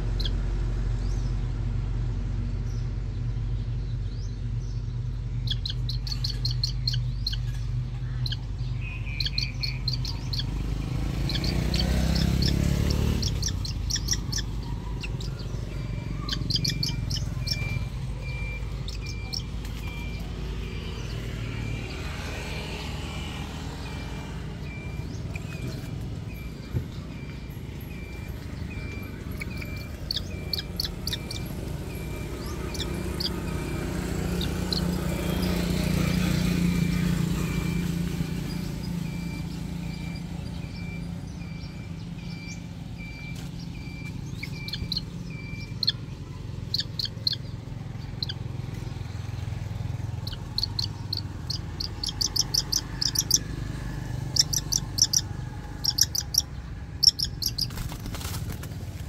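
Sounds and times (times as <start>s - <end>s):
bird chirping: 0.0s - 1.4s, 2.6s - 58.8s.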